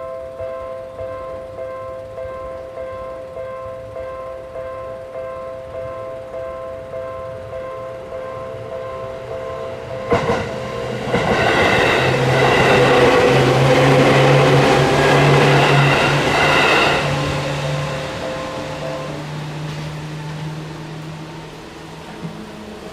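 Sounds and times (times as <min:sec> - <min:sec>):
railroad crossing bell ringing: 0:00.0 - 0:21.6
train passing: 0:00.0 - 0:22.9.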